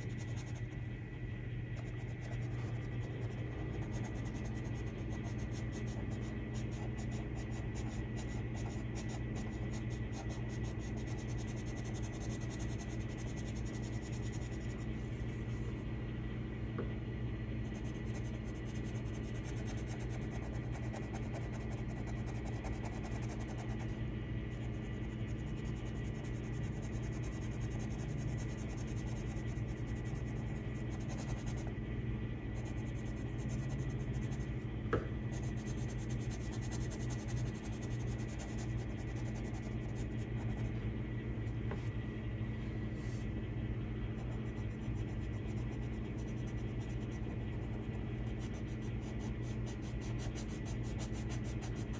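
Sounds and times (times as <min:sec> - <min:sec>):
pencil scratching on paper: 0:00.0 - 0:00.8, 0:01.8 - 0:14.9, 0:17.6 - 0:31.7, 0:32.6 - 0:34.6, 0:35.3 - 0:40.7, 0:44.2 - 0:51.9
steady low hum: 0:00.0 - 0:51.9.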